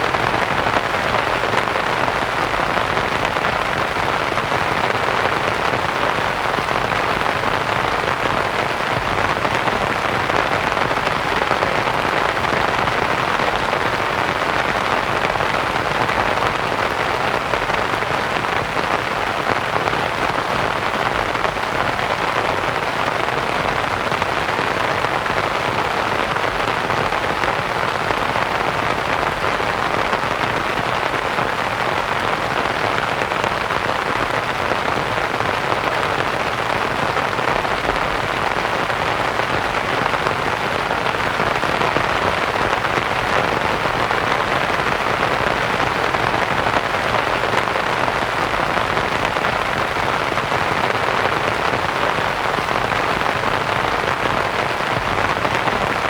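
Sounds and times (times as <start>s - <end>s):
rain on a canvas tent: 0.0s - 56.0s.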